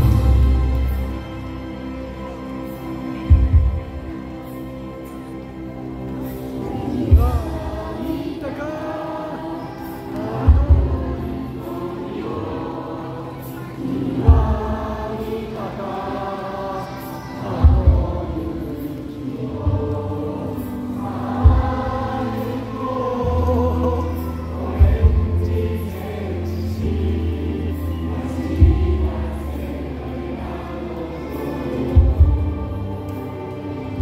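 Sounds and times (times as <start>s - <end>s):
stadium crowd singing: 0.0s - 34.0s.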